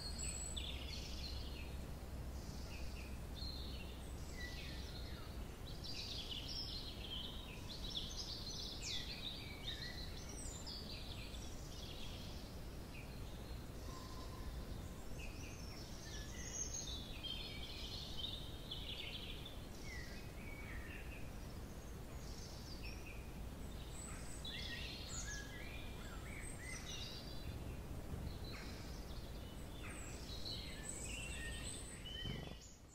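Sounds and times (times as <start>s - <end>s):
low outdoor rumble: 0.0s - 32.8s
songbirds chirping and trilling: 0.0s - 32.9s.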